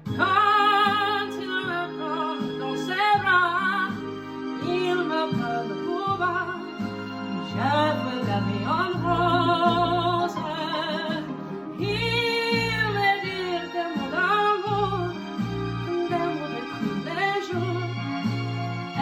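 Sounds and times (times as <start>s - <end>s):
backing music with pulsing bass: 0.0s - 19.0s
woman singing with vibrato: 0.1s - 4.0s, 4.6s - 18.0s.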